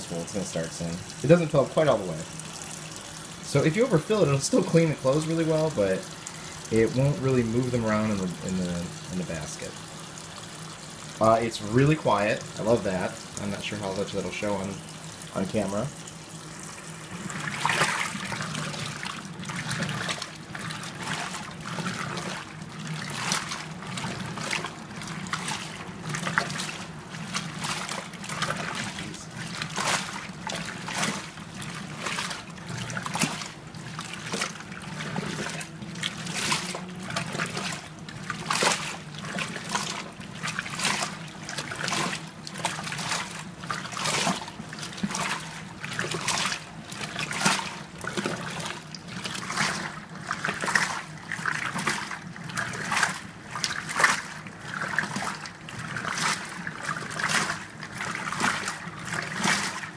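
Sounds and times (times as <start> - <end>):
low motor hum: 0.0 - 50.3
water swishing in washer: 0.0 - 59.9.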